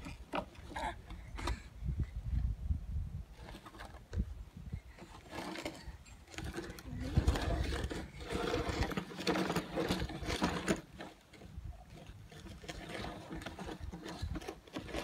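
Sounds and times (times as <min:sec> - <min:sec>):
plastic wheels grinding through sand: 0:00.0 - 0:01.8, 0:03.2 - 0:15.0.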